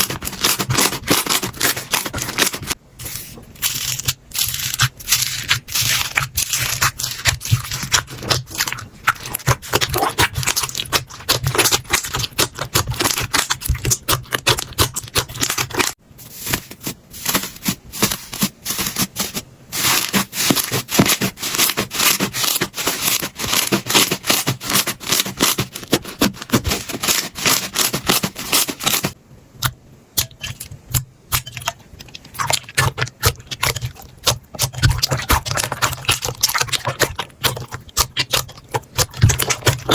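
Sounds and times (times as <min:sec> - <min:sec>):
slime crackling and popping: 0:03.6 - 0:29.2, 0:31.3 - 0:39.9.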